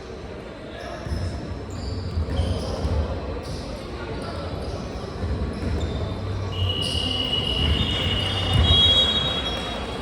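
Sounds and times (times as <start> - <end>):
sneaker squeaks on court: 1.0 - 9.3.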